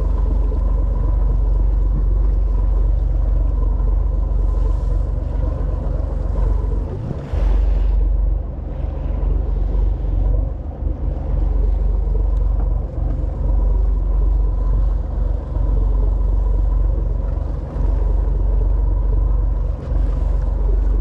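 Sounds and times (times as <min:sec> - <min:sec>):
boat engine running: 0:00.0 - 0:21.0
faint steady hum: 0:00.0 - 0:21.0
wind buffeting microphone: 0:00.0 - 0:21.0.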